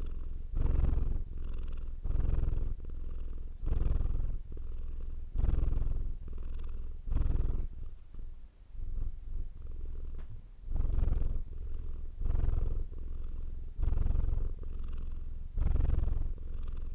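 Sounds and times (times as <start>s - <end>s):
cat purring: 0.0s - 16.9s.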